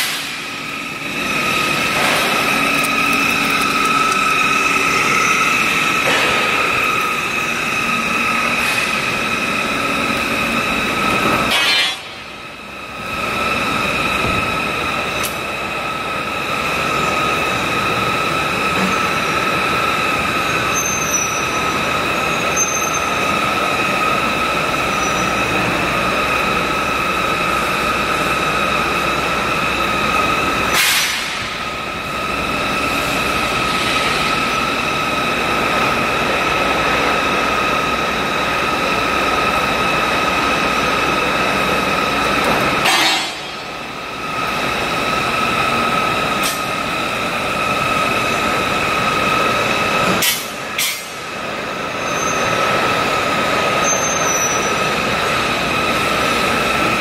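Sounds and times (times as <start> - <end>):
machine high-pitched whine: 0.0 - 57.0.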